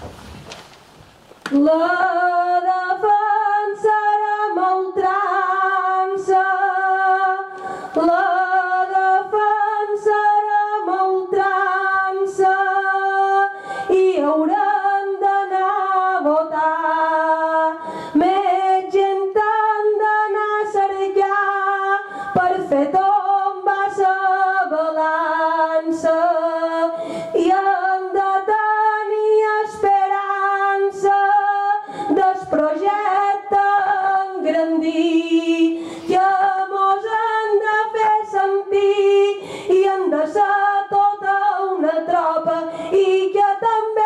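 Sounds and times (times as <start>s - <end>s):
woman singing unaccompanied: 1.5s - 44.0s.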